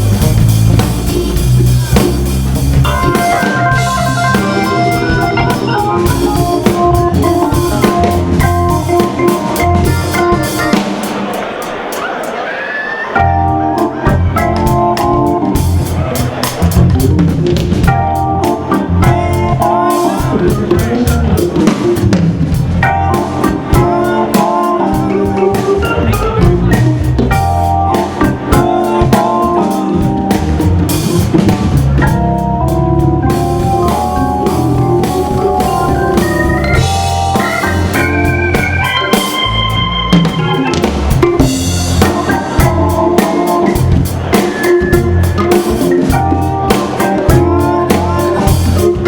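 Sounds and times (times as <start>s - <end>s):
low bass notes: 0.0s - 10.8s, 13.2s - 49.0s
drum kit groove: 0.0s - 12.5s, 13.2s - 49.0s
organ chords: 0.0s - 49.0s.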